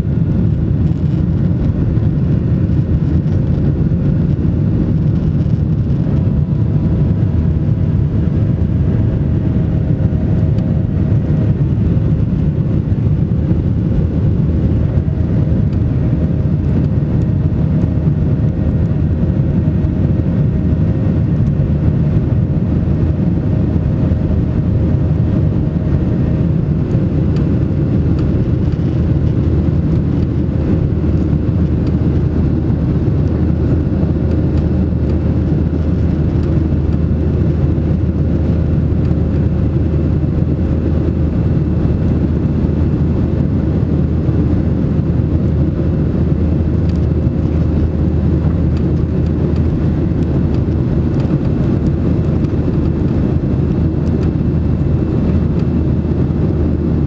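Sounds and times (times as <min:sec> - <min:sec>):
jet cabin engine roar: 0:00.0 - 0:57.0.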